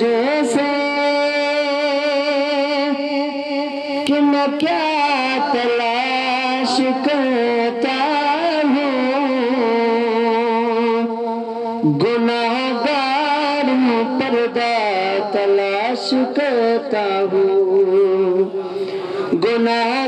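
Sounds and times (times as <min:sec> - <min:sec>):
man singing devotional recitation: 0:00.0 - 0:20.0.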